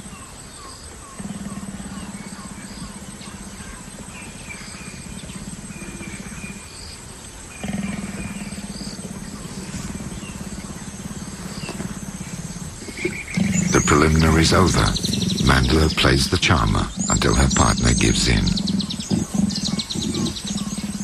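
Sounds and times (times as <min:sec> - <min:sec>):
faint bird chirps: 0:00.0 - 0:21.0
leopards growling: 0:00.0 - 0:21.0.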